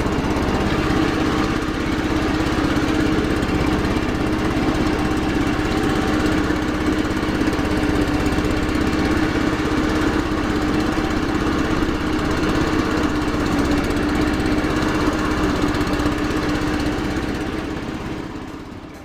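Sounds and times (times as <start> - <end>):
ride-on mower engine running: 0.0 - 19.0.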